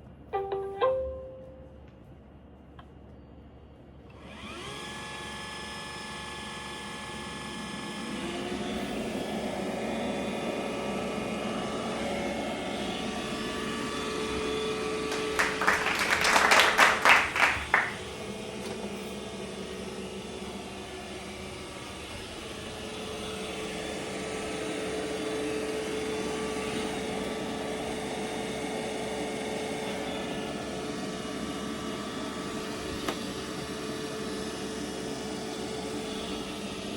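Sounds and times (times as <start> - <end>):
robot vacuum whirring: 4.2 - 15.4, 17.9 - 36.9.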